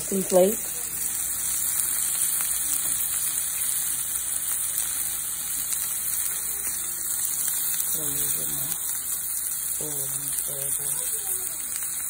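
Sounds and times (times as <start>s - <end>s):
steak sizzling in a pan: 0.0s - 12.0s.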